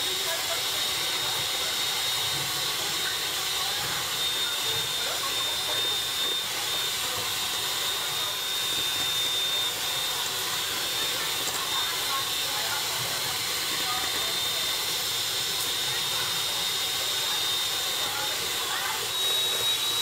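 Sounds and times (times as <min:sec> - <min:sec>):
electric hand mixer whirring: 0:00.0 - 0:20.0.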